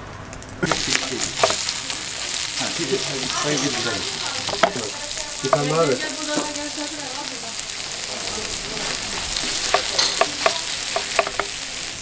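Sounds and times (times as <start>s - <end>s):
onions sizzling in hot oil: 0.2s - 12.0s.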